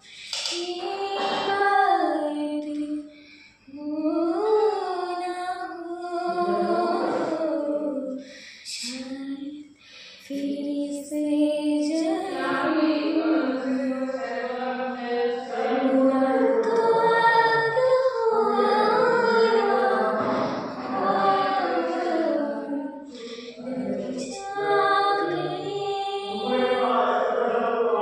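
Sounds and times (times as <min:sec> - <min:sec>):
woman singing unaccompanied: 0:00.0 - 0:14.2, 0:15.3 - 0:27.0.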